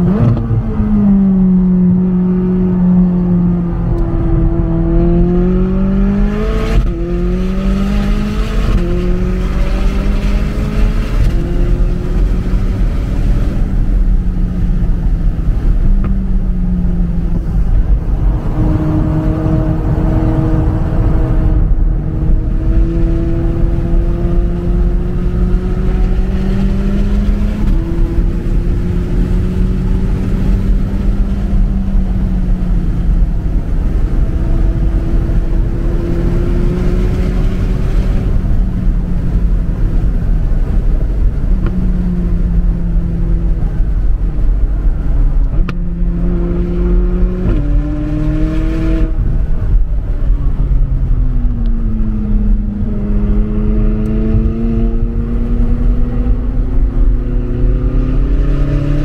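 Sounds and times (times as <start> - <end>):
sports car engine accelerating: 0.0 - 59.0.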